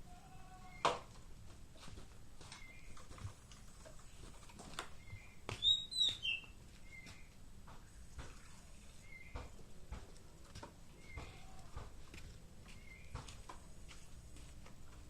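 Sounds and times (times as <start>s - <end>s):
songbird chirping: 0.0s - 1.1s, 2.4s - 14.7s.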